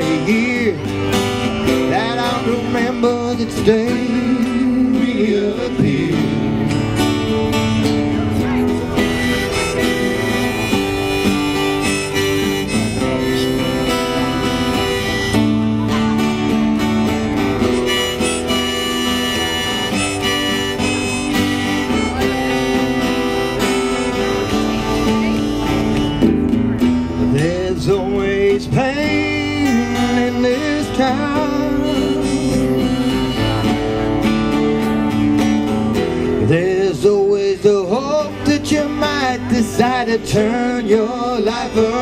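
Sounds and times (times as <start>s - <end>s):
harmonica melody: 0.0s - 27.6s, 29.0s - 36.7s
strummed acoustic guitars: 0.0s - 42.0s.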